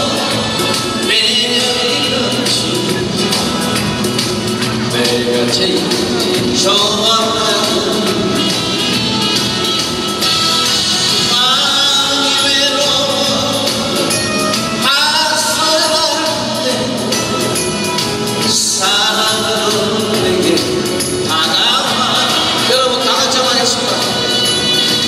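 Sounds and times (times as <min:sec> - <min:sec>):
man singing into microphone: 0:00.0 - 0:09.1, 0:11.0 - 0:17.4, 0:18.4 - 0:25.0
amplified musical accompaniment: 0:00.0 - 0:25.0.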